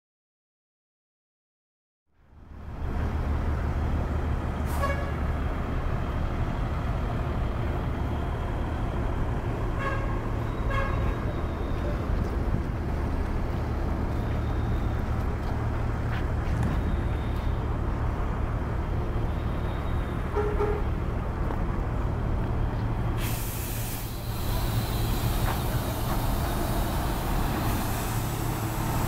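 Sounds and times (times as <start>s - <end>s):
diesel bus engines rumbling: 2.2s - 29.0s.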